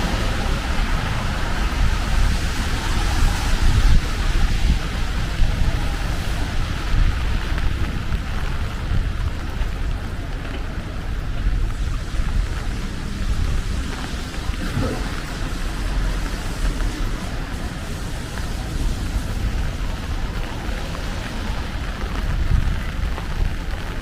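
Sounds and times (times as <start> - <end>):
rain hiss: 0.0 - 24.0
traffic rumble: 0.0 - 24.0.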